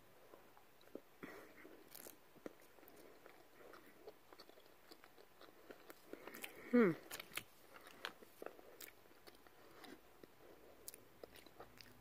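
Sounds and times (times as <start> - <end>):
person chewing cookie: 0.2 - 12.0.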